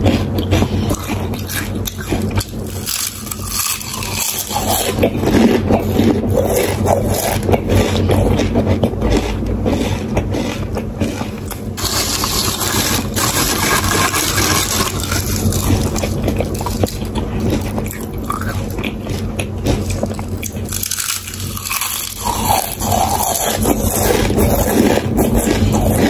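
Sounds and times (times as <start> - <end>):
chewing crunchy potato chips: 0.0 - 26.0.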